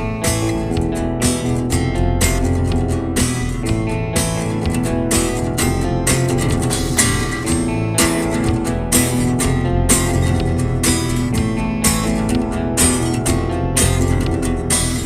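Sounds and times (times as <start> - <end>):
bass and drums: 0.0 - 15.0
strummed acoustic guitar: 0.0 - 15.0.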